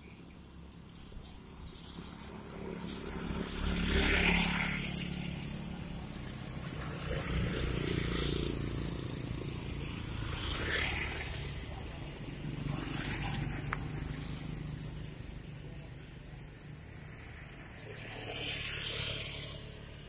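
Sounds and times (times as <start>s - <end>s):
low traffic rumble: 0.0s - 20.0s
motorcycle passing: 0.1s - 20.0s.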